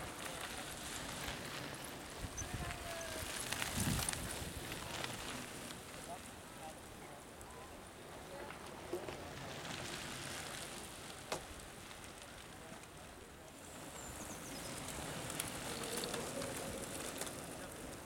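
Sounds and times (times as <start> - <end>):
bike tyres crunching on gravel: 0.0 - 18.0.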